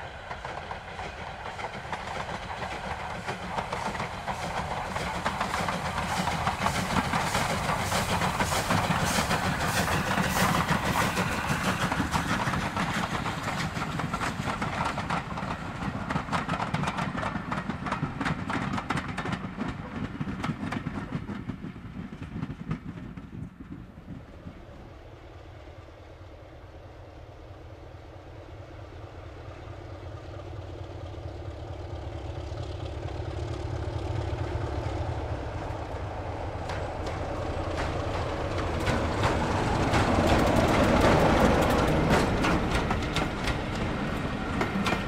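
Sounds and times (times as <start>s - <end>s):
train wheels clicking over rail joints: 0.1s - 24.6s, 33.1s - 45.0s.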